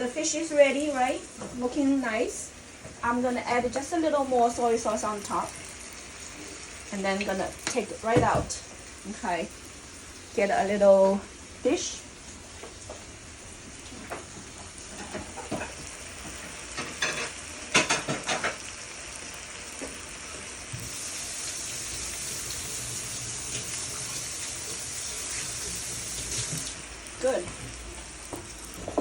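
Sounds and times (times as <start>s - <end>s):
fish sizzling in a pan: 0.0s - 29.0s.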